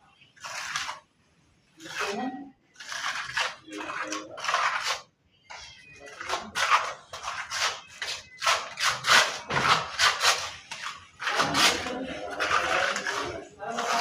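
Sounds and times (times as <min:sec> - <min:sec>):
trowel scraping mortar: 0:00.4 - 0:01.0, 0:01.8 - 0:02.2, 0:02.8 - 0:14.0.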